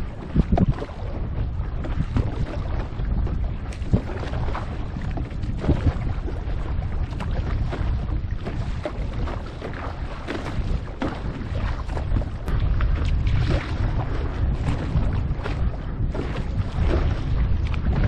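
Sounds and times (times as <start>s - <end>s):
wind buffeting microphone: 0.0s - 18.0s
water splashing against board: 1.8s - 18.0s.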